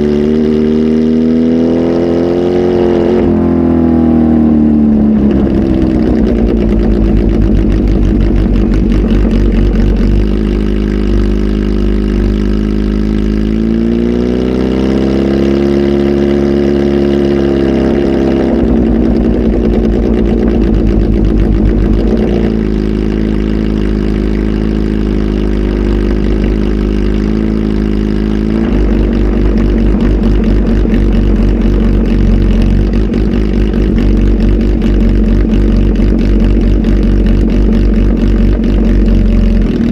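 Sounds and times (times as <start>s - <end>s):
motorcycle engine revving loud: 0.0s - 39.9s.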